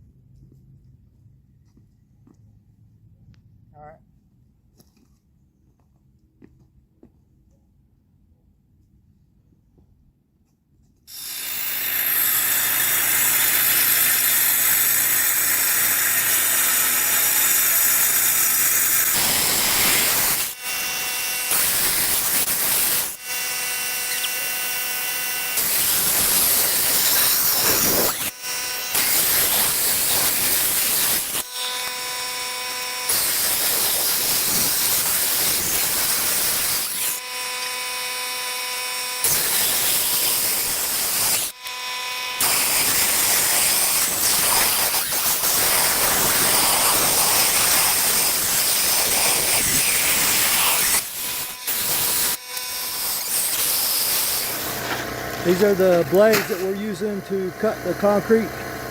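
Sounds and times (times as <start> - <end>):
motor whine: 11.1 - 58.9
power saw grinding concrete: 11.1 - 58.9.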